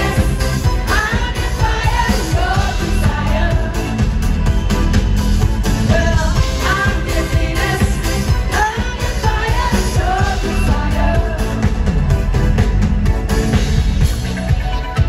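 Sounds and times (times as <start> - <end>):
live pop band through speakers: 0.0 - 15.0.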